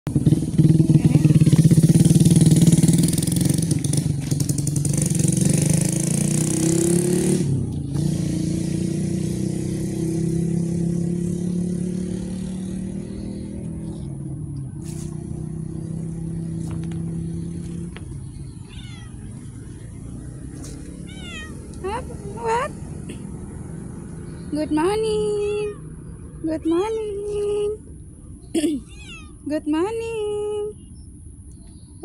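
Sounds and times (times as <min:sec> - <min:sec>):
engine running: 0:00.1 - 0:30.7.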